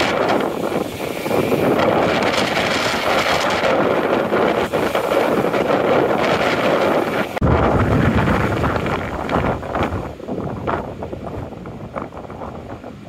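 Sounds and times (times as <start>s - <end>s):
water rushing over rocks: 0.0s - 13.0s
wind buffeting microphone: 0.0s - 13.0s.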